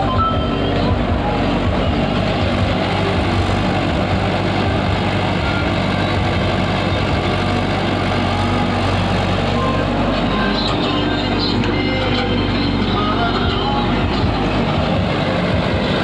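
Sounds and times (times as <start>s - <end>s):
heavy vehicle engine droning: 0.0s - 16.0s.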